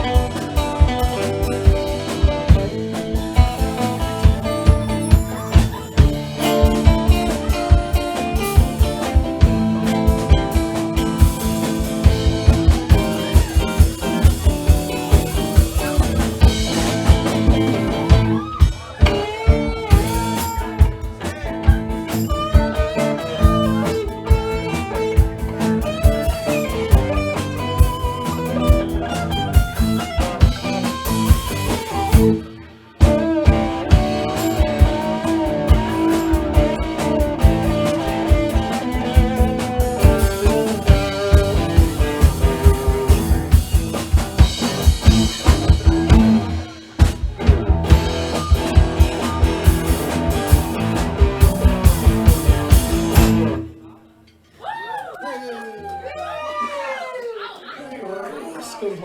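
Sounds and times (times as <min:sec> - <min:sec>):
drum kit beat: 0:00.0 - 0:53.9
guitar melody with bent notes: 0:00.0 - 0:54.5.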